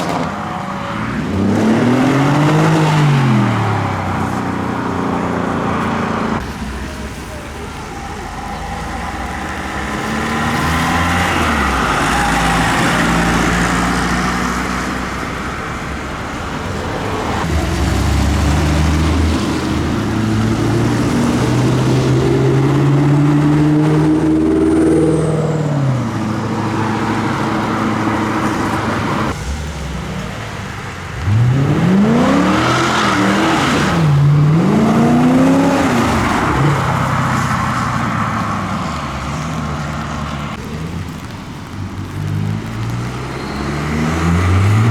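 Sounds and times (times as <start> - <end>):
car engine revving hard: 0.0 - 15.2, 17.1 - 40.6, 42.5 - 44.9
cars driving off: 0.0 - 44.9.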